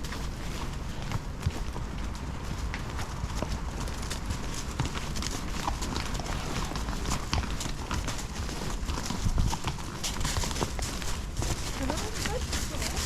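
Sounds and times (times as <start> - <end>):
horse hooves clopping: 0.0 - 13.0.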